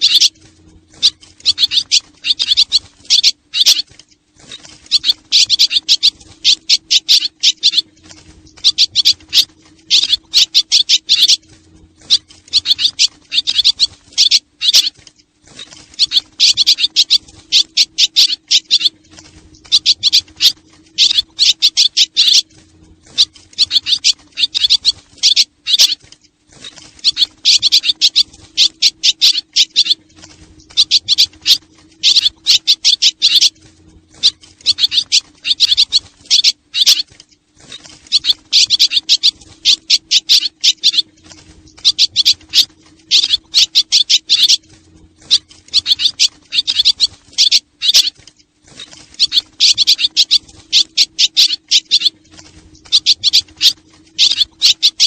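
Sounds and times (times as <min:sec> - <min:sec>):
faint low hum: 0:00.0 - 0:55.0
swallows twittering: 0:00.0 - 0:55.0.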